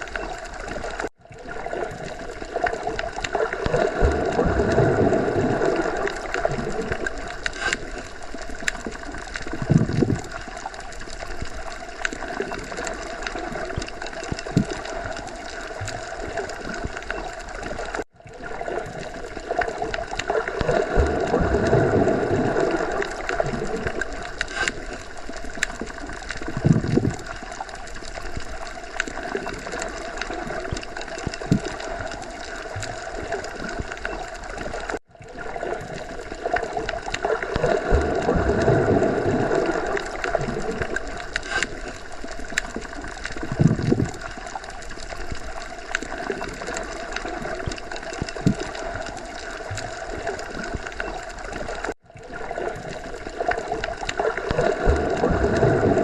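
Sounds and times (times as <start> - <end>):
muffled underwater water noise: 0.0 - 56.0.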